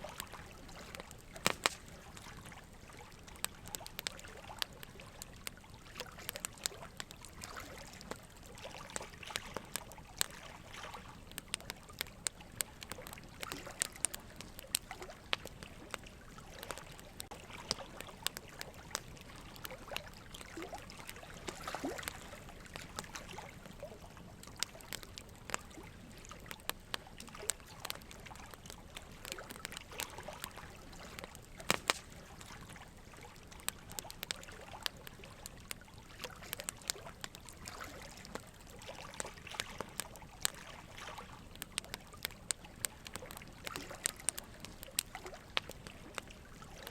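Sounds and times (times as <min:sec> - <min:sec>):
small clicks and drips: 0:00.0 - 0:46.9
water trickling: 0:00.0 - 0:46.9.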